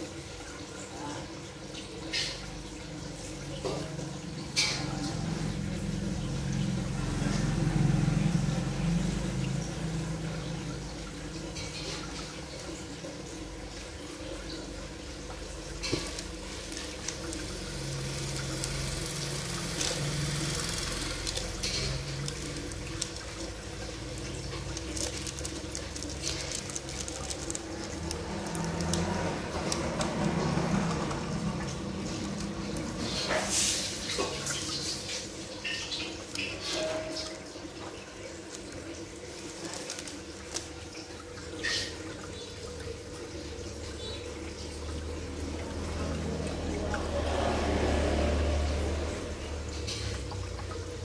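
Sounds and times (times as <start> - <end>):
water splashing and bubbling: 0.0 - 51.0.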